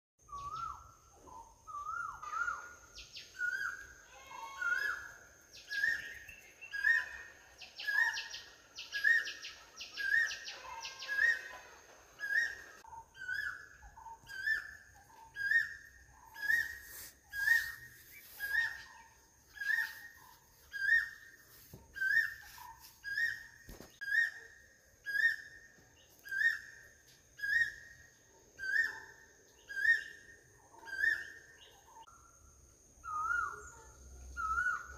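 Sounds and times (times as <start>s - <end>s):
whistled bird-like call: 0.2s - 11.6s, 12.2s - 25.6s, 27.4s - 28.0s, 28.6s - 32.3s, 33.0s - 34.9s
chirping calls: 0.2s - 32.4s.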